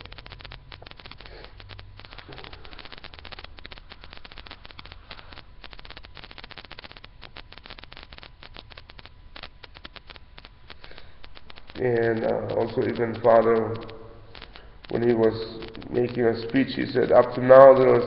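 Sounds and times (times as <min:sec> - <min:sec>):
crackle of tiny clicks: 0:00.0 - 0:18.0
low hum: 0:00.0 - 0:18.0.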